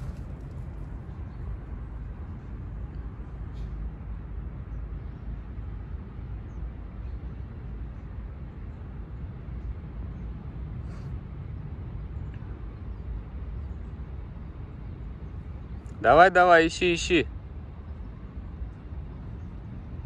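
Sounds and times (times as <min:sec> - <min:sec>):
steady low rumble: 0:00.0 - 0:16.4, 0:17.3 - 0:20.0.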